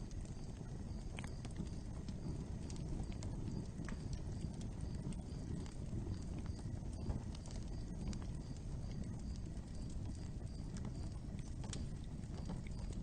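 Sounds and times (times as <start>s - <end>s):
open fire crackling and popping: 0.0s - 13.0s.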